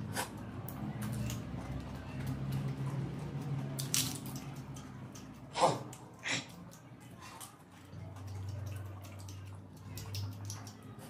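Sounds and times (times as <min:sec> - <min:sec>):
wet chewing and mouth smacks: 0:01.0 - 0:11.0.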